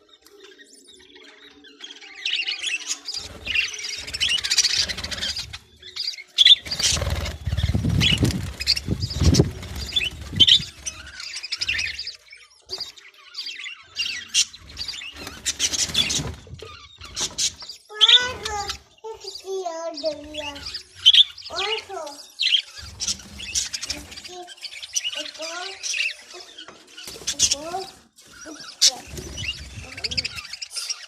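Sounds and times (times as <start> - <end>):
budgerigars chirping and squawking: 0.0 - 31.0.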